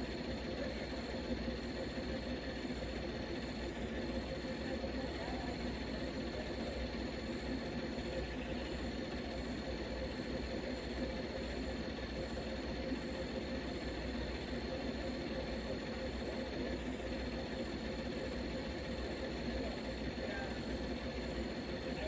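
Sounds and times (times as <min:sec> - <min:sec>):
heavy vehicle engine idling: 0:00.0 - 0:22.0.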